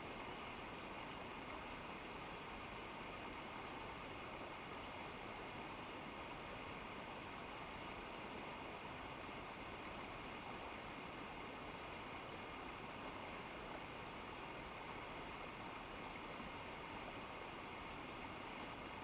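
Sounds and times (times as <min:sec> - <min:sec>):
mountain river rushing: 0:00.0 - 0:19.0.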